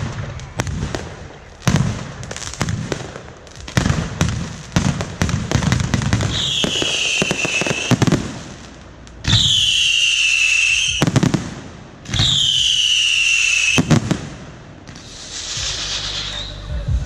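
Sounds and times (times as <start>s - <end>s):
firework cracks: 0.0s - 16.7s
firework whistling: 0.0s - 17.0s.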